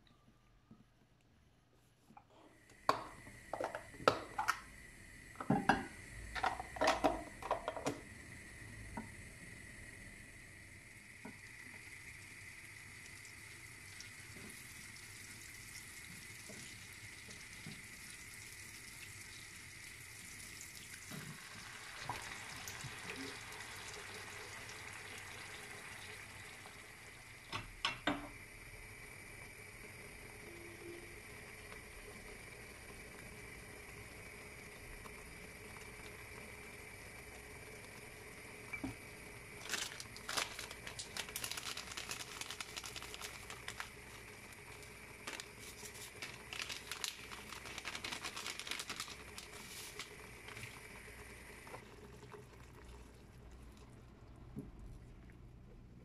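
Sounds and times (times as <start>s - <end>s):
sauce bubbling in a pan: 2.7s - 27.6s, 28.2s - 41.4s, 42.6s - 46.5s, 49.1s - 55.9s.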